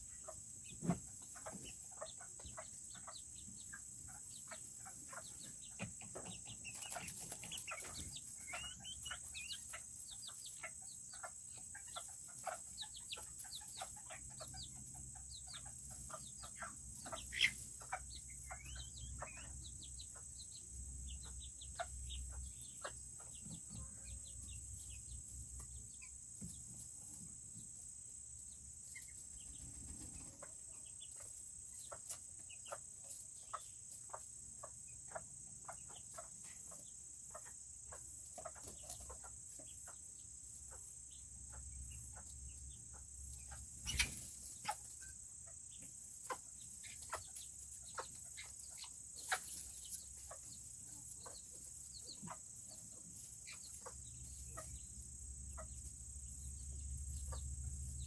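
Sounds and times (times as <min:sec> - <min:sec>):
chickens clucking and chirping: 0:00.0 - 0:58.0.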